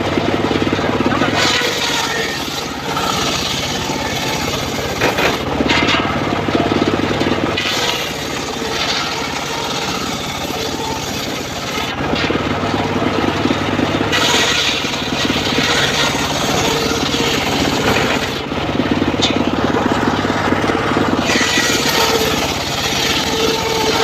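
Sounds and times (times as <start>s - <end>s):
circular sawmill running: 0.0s - 24.0s
saw blade rasping through wood: 1.1s - 24.0s.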